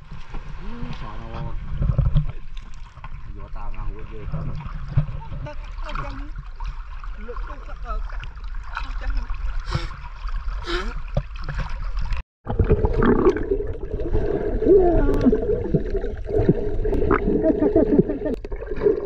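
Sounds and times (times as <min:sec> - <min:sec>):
muffled underwater wash: 0:00.0 - 0:19.0
water sloshing and splashing: 0:00.0 - 0:19.0.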